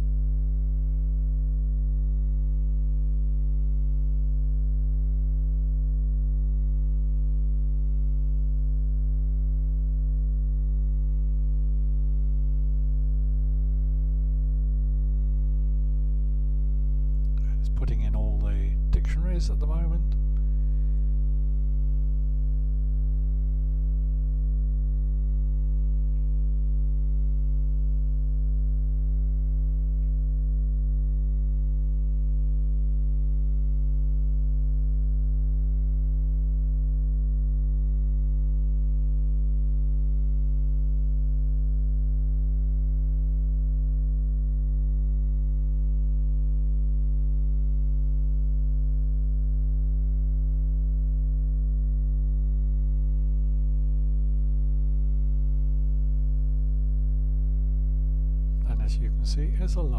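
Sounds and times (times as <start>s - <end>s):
low electrical mains hum: 0.0s - 59.9s.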